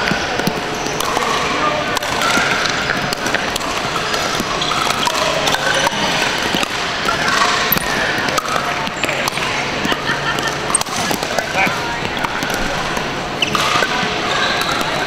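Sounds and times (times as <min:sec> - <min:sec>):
balls bouncing on hardwood floor: 0:00.0 - 0:15.0
paddles striking plastic balls: 0:00.0 - 0:15.0.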